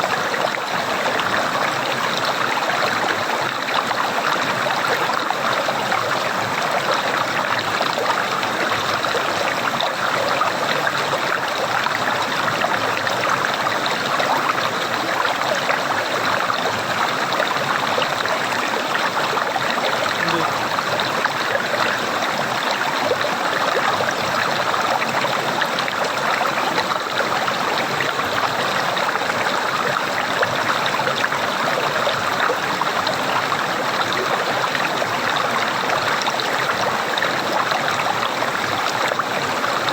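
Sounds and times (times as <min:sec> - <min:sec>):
flowing water gurgling: 0:00.0 - 0:39.9.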